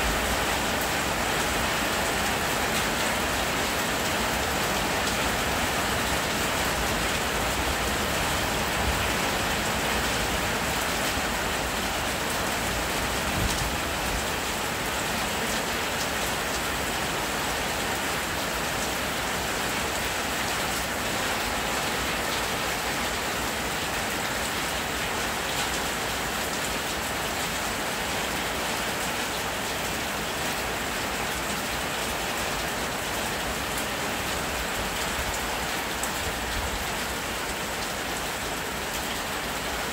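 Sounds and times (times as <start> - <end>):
loud steady rain: 0.0 - 39.9.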